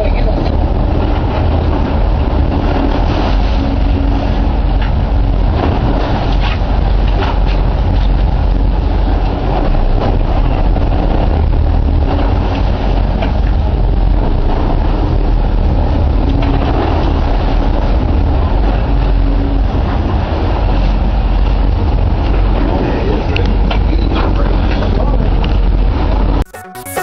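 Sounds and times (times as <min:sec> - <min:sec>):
rushing wind: 0:00.0 - 0:26.5
boat engines rumbling: 0:00.0 - 0:27.0
water noise: 0:00.0 - 0:27.0.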